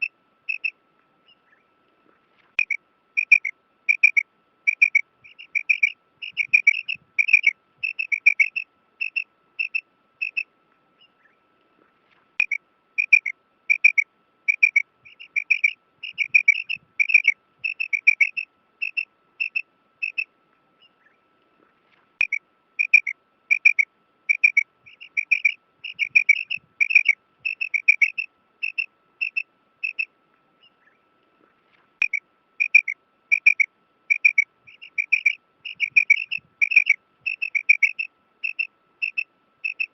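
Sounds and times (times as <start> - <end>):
quail calling: 0.0 - 1.6, 2.6 - 10.5, 12.4 - 21.2, 22.2 - 31.0, 32.0 - 39.9.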